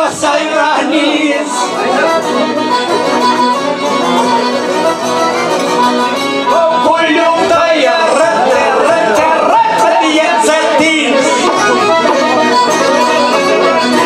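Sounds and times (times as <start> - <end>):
plucked long-necked lute: 0.0 - 14.0
violin: 0.0 - 14.0.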